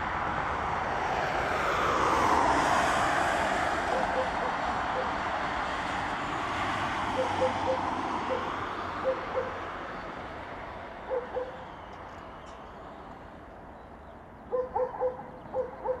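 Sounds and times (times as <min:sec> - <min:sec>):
jet engines roaring: 0:00.0 - 0:13.8.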